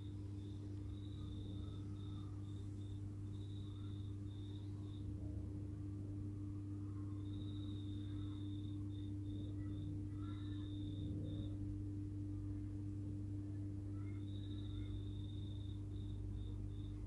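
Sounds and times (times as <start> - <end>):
faint high-pitched trill: 0.0 - 5.1, 6.6 - 11.6, 13.4 - 17.0
steady low hum: 0.0 - 17.0.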